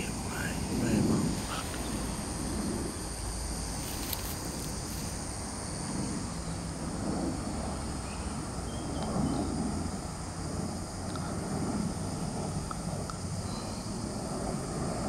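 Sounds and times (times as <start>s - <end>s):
high-pitched insect chorus: 0.0s - 15.0s
low steady rumble: 0.0s - 15.0s.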